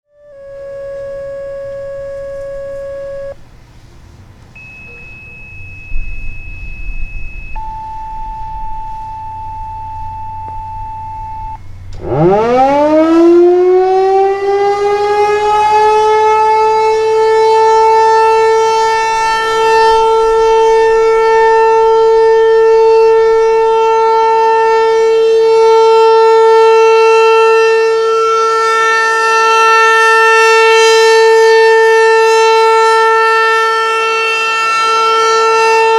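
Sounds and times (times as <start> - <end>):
outdoor warning siren winding up: 0.0 - 3.4, 4.6 - 35.9.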